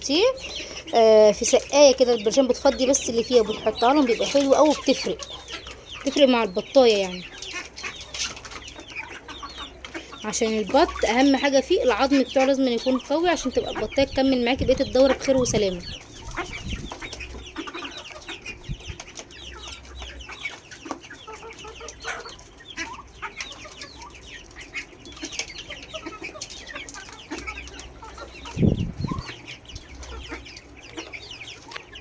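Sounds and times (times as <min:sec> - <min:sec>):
chicks peeping: 0:00.0 - 0:32.0
hens clucking: 0:00.0 - 0:32.0.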